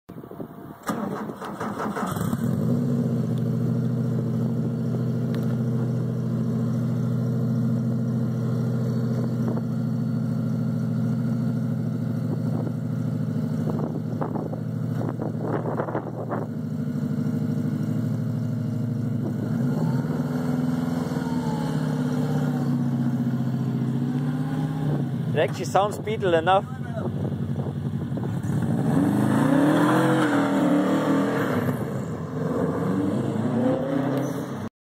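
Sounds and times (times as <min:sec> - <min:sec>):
car engine starting and idling: 0:00.2 - 0:34.7.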